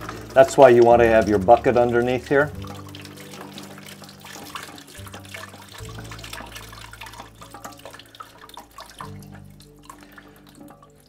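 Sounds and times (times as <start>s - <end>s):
water pouring into plastic bucket: 0.0s - 11.0s.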